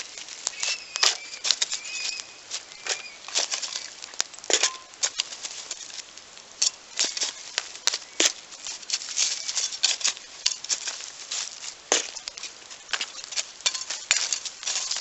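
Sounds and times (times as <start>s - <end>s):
faint hiss: 0.0s - 15.0s
wood fire crackling and popping: 0.0s - 15.0s.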